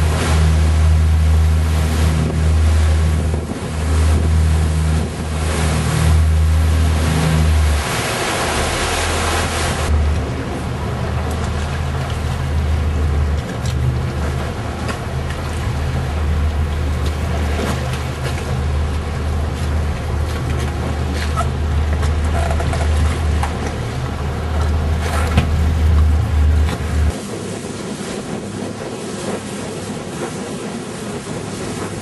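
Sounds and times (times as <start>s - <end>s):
boat engine rumble: 0.0s - 32.0s
water noise: 0.0s - 32.0s
wind: 0.0s - 32.0s.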